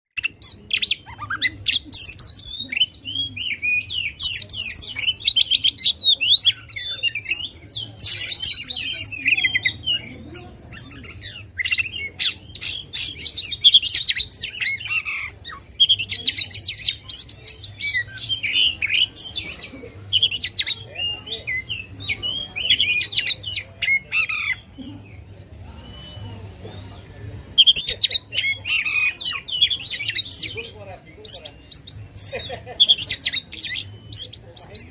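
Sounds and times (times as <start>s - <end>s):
songbird singing: 0.2s - 34.9s.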